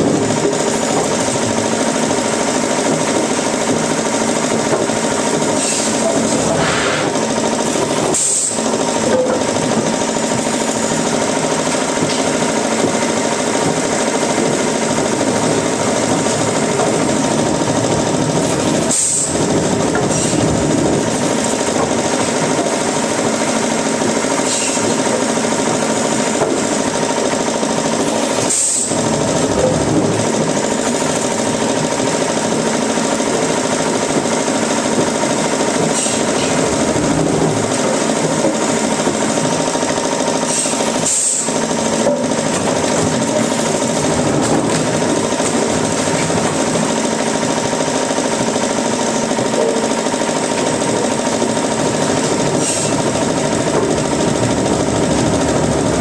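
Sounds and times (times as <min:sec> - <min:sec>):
woodworking machinery grinding: 0:00.0 - 0:56.0.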